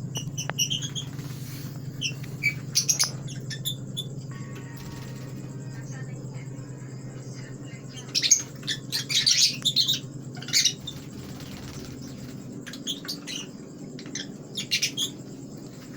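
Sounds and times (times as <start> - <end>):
small birds chirping: 0.0 - 15.9
steady low hum: 0.0 - 15.9.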